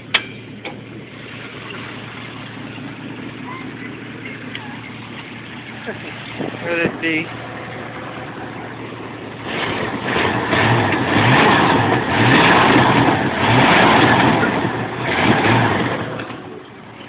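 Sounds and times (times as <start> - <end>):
vee eight engine revving: 0.9 - 17.0.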